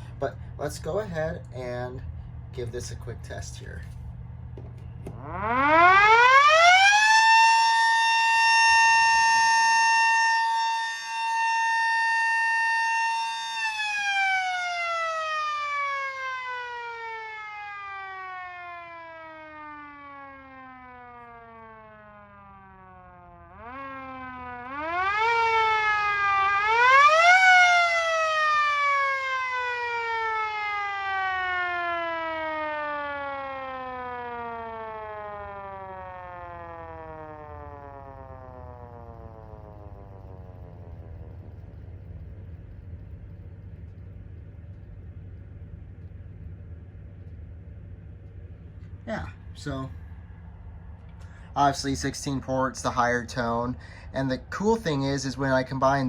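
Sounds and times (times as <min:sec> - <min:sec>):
motor siren wailing: 0:00.0 - 0:56.0.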